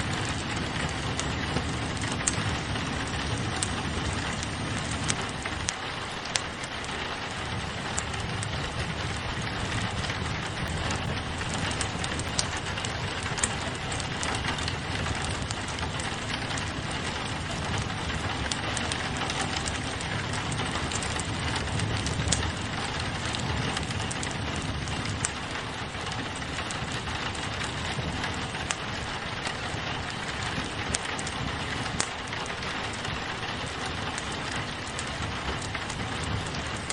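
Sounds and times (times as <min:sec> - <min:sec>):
rain pattering on a window: 0:00.0 - 0:36.9
wood fire crackling: 0:00.0 - 0:36.9.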